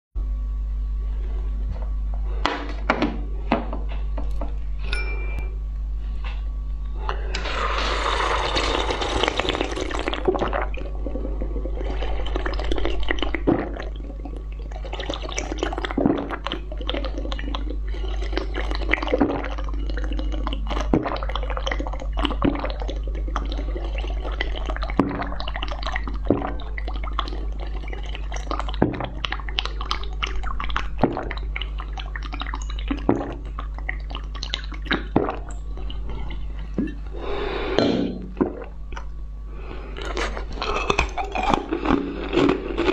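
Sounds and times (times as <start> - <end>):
steady low hum: 0.2 - 42.9
wet slurping and gulping: 7.1 - 42.9.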